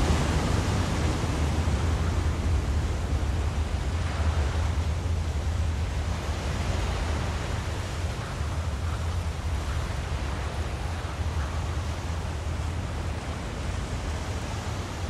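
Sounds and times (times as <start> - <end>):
rushing wind-like noise: 0.0 - 15.0.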